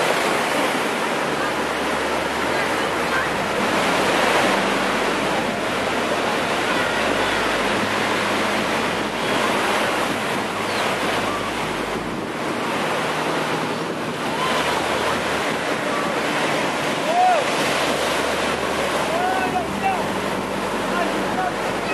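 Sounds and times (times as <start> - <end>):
surf breaking on beach: 0.0 - 21.9
wind buffeting microphone: 0.0 - 21.9.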